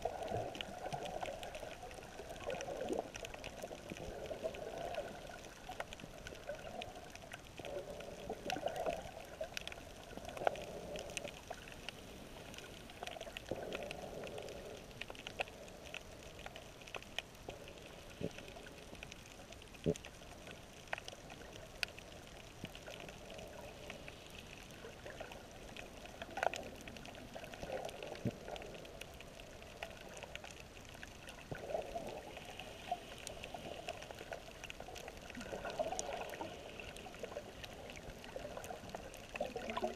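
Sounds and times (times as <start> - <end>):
underwater clicks and crackles: 0.0 - 39.9.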